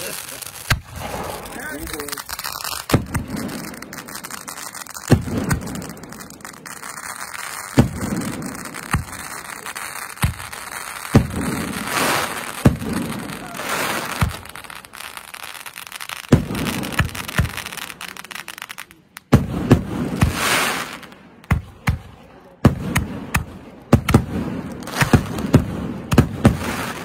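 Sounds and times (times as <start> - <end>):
fireworks hissing crackle: 0.0 - 22.0, 22.7 - 27.0
fireworks bangs: 0.0 - 27.0.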